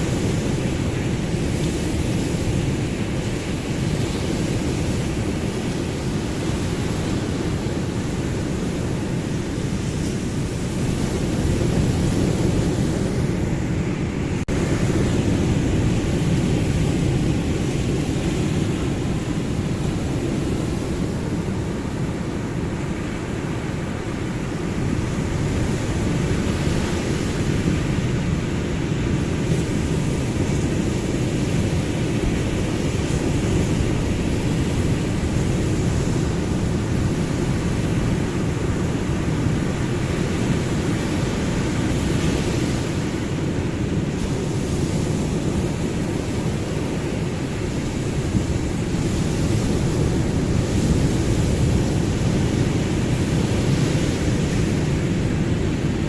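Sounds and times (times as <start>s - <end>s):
ocean waves rushing: 0.0s - 56.0s.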